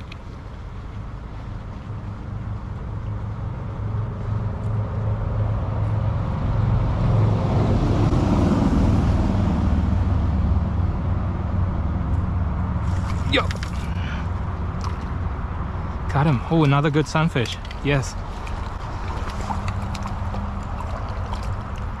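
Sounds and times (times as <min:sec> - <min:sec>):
vehicle engine and tyre noise: 0:00.0 - 0:22.0.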